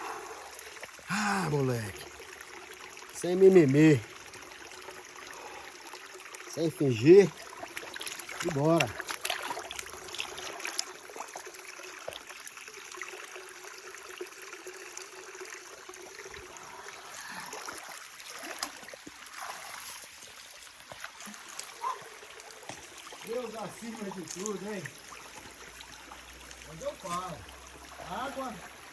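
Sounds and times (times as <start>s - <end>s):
stream water trickling: 0.0s - 28.9s.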